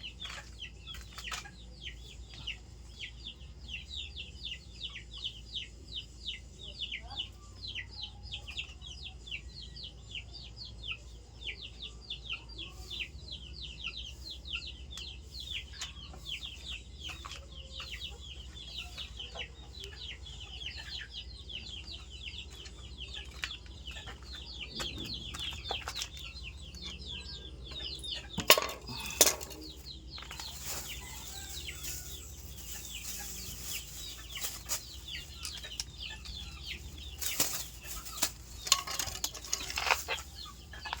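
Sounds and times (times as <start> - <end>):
birds chirping rapidly: 0.0 - 41.0.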